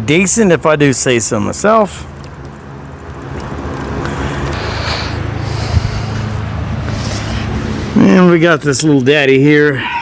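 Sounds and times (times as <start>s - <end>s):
engine humming: 1.3s - 10.0s.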